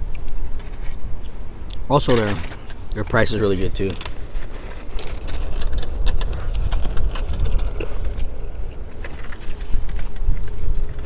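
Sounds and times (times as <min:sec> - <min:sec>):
wind buffeting microphone: 0:00.0 - 0:11.0
sharp clicks and crackles: 0:01.7 - 0:11.0.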